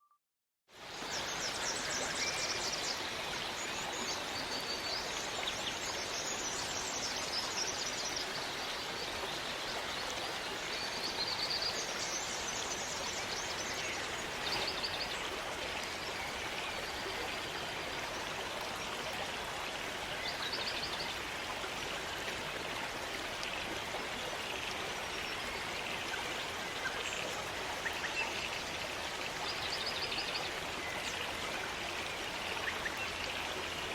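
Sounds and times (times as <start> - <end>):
stream water rushing: 0.8 - 33.9.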